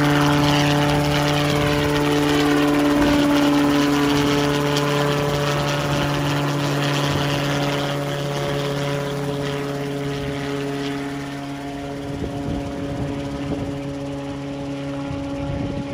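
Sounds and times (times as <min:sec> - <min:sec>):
helicopter rotor and engine hum: 0:00.0 - 0:15.9.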